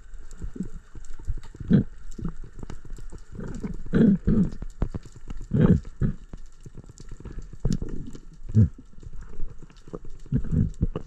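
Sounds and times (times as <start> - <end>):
muffled water swishes: 0.0 - 11.0
underwater crackle of clicks: 0.0 - 11.0.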